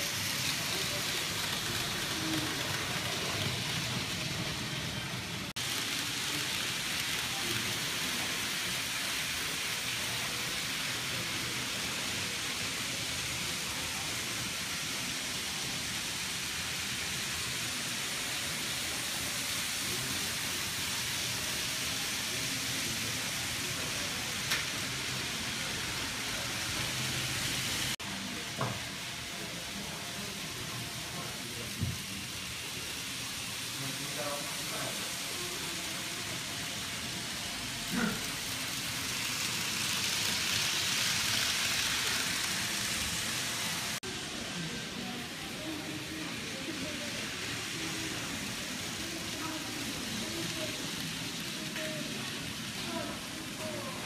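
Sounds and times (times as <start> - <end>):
model train whirring: 0.0 - 54.0
shop background noise: 0.0 - 54.0.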